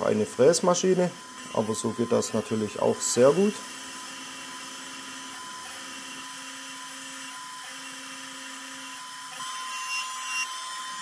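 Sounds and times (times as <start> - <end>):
router whining while milling metal: 0.0 - 11.0.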